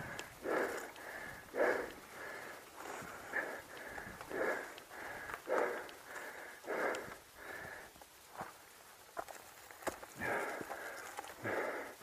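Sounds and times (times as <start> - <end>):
person breathing hard: 0.0 - 8.2, 10.2 - 12.0.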